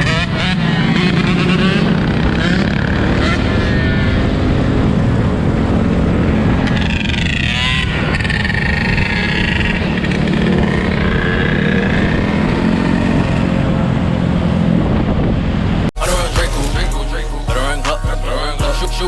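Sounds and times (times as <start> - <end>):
dirt bike engines revving: 0.0 - 14.0, 16.0 - 19.0.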